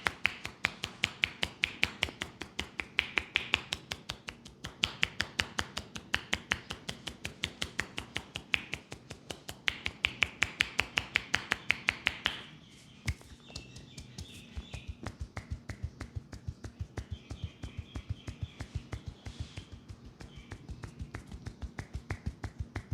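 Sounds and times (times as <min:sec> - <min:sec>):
hand strikes of percussive massage: 0:00.0 - 0:12.5, 0:13.1 - 0:22.9.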